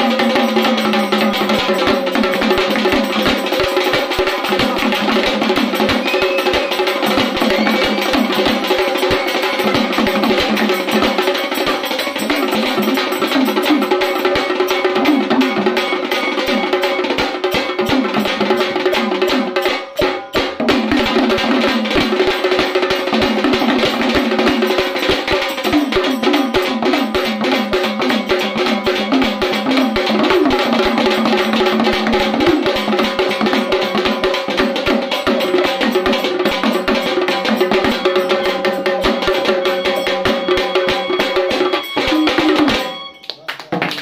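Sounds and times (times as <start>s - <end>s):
stick-beaten drums playing fast: 0.0s - 44.0s.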